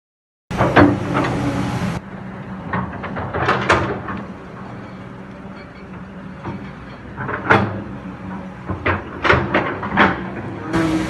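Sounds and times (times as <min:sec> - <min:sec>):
excavator diesel engine: 0:00.5 - 0:11.0.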